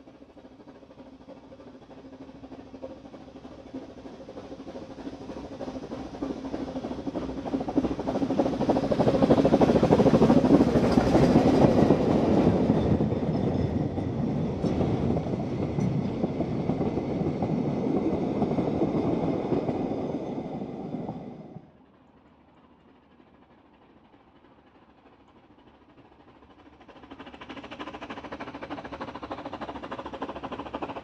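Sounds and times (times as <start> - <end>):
steam locomotive passing: 0.0 - 31.0.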